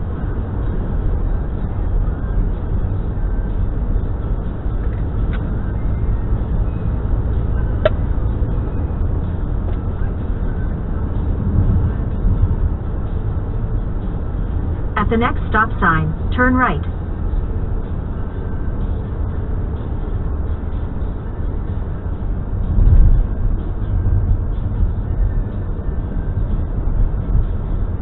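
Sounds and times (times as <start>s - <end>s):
car road noise from inside: 0.0s - 28.0s.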